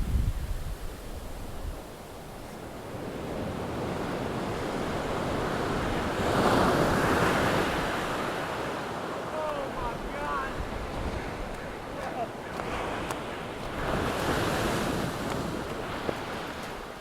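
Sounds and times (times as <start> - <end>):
wind buffeting microphone: 0.0 - 8.8, 9.6 - 17.0
ocean wave breaking: 0.0 - 17.0.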